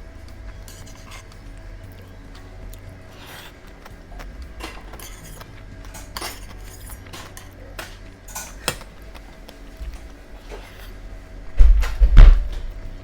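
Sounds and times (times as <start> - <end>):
steady low hum: 0.0 - 13.0
utensils clinking against dishes: 0.4 - 11.0.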